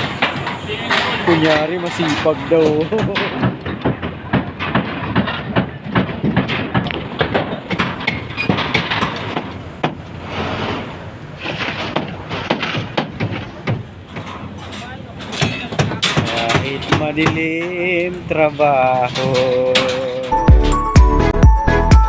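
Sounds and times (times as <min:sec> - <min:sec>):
construction knocking and clatter: 0:00.0 - 0:21.4.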